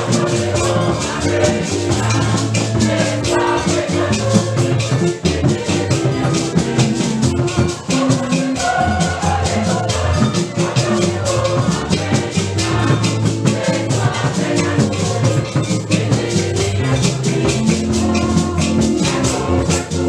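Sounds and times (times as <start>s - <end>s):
shaken rattles and drums: 0.0s - 20.0s
upbeat church music: 0.0s - 20.0s.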